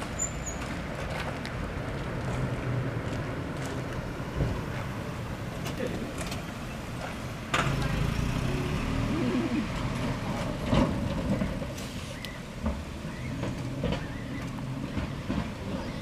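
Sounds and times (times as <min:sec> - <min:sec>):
vehicle engines running: 0:00.0 - 0:16.0.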